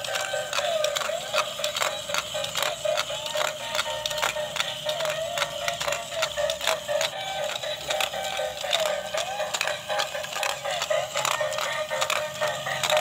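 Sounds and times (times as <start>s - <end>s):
electronic dance tune from small speaker: 0.0s - 13.0s.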